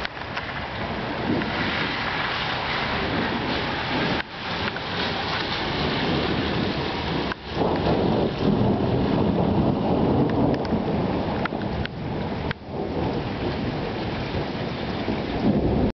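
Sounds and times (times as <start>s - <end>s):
heavy rain: 0.0s - 15.9s
rolling thunder: 0.0s - 15.9s
sharp raindrop ticks: 0.0s - 15.9s.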